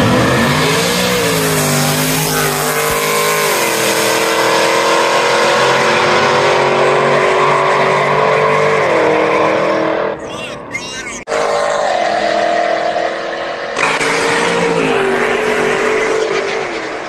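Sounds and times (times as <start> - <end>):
racing engines at full throttle: 0.0 - 17.0.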